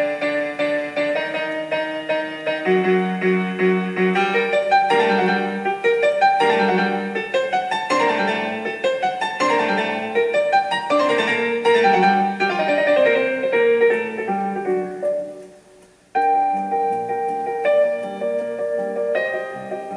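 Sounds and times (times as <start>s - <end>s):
piano melody: 0.0s - 19.9s.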